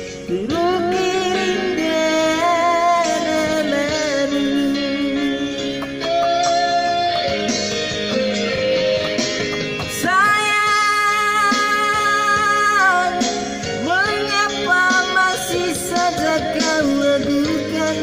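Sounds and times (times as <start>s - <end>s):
guitar: 0.0s - 18.0s
person singing: 0.0s - 18.0s.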